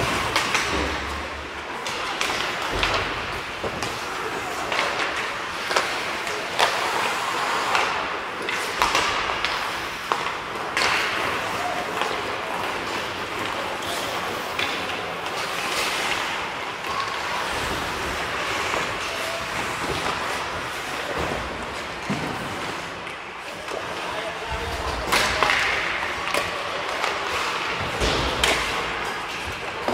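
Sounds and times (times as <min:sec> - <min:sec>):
hockey sticks and puck clacking: 0:00.0 - 0:29.9
skates scraping on ice: 0:00.0 - 0:29.9.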